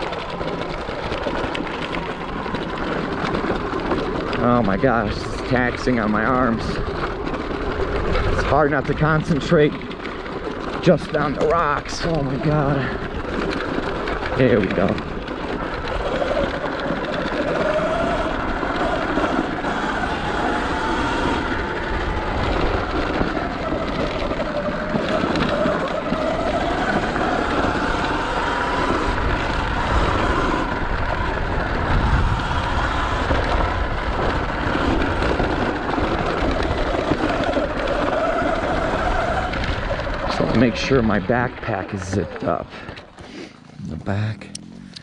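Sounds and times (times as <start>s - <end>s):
electric motor whine: 0.0s - 42.6s
tyres rumbling on loose rock: 0.0s - 45.0s.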